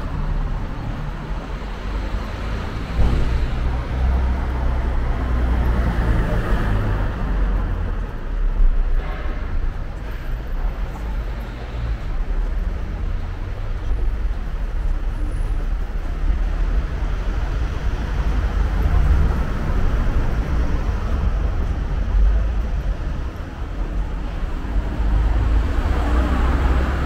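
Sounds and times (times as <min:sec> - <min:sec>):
vehicles passing on road: 0:00.0 - 0:27.0.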